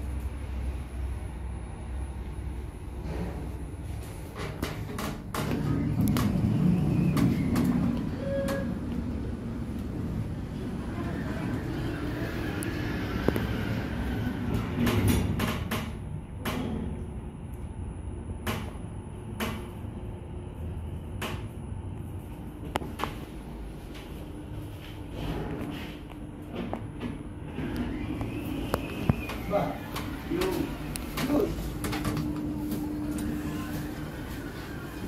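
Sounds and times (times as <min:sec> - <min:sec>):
elevator rumble: 0:00.0 - 0:35.0.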